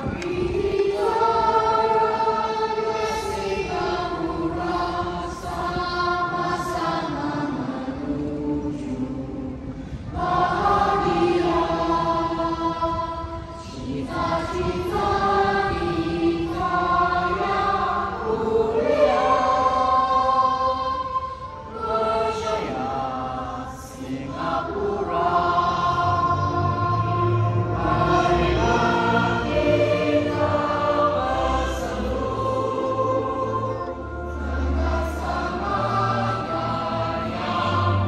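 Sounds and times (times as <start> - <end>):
crowd singing with music: 0.0 - 38.0.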